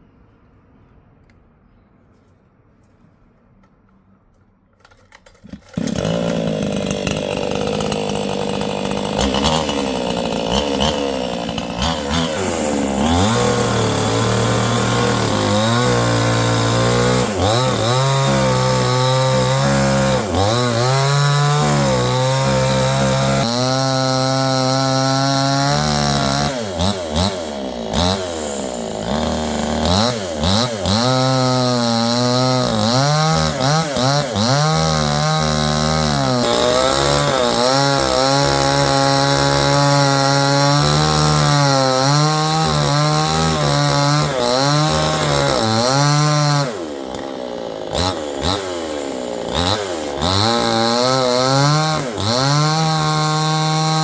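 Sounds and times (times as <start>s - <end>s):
chainsaw revving: 5.2s - 54.0s.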